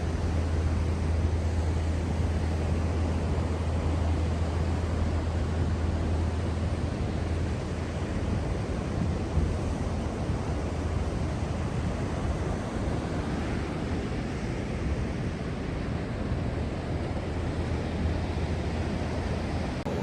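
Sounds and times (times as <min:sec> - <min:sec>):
low engine hum: 0:00.0 - 0:14.1, 0:15.9 - 0:20.0.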